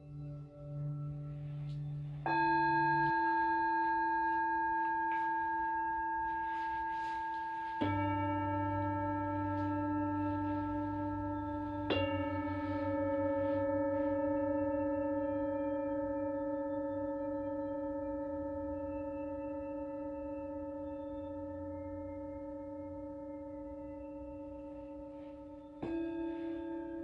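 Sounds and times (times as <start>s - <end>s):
singing bowls ringing: 0.0s - 27.0s.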